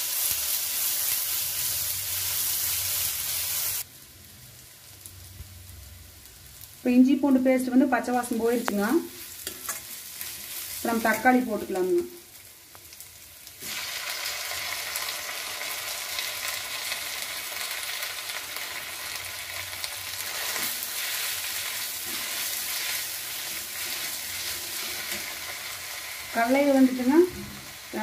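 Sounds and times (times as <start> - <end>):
tomatoes sizzling in hot oil: 0.0 - 28.0.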